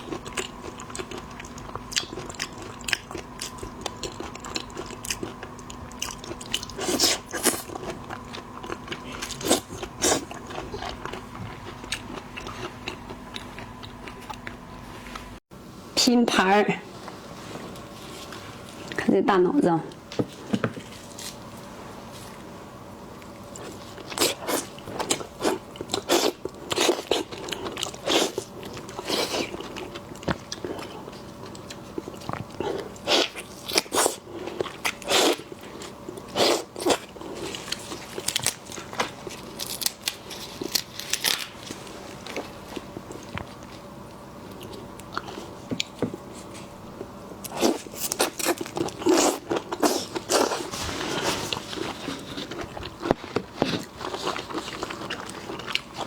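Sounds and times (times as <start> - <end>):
crunchy bites and chewing: 0.0 - 14.6, 23.2 - 56.0.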